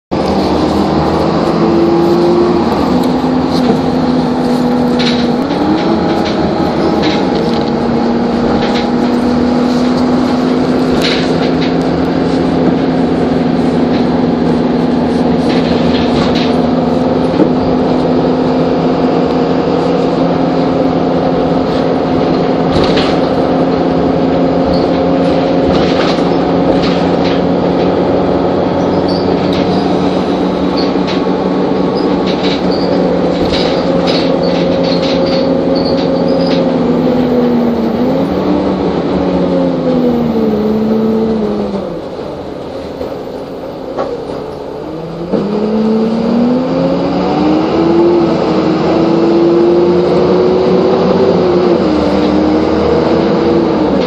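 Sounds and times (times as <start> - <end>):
bus engine drone with gear whine: 0.1 - 54.0
rattles and knocks in bus interior: 0.1 - 54.0.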